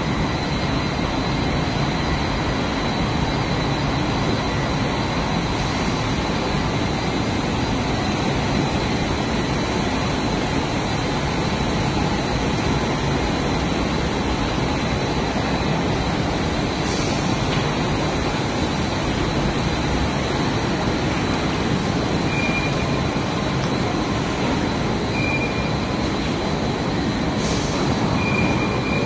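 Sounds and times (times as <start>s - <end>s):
factory machinery roar: 0.0s - 29.0s
faint steady whine: 0.0s - 29.0s.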